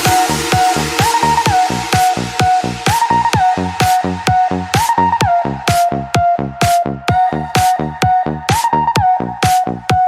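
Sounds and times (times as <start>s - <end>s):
kick drum beat: 0.0s - 10.0s.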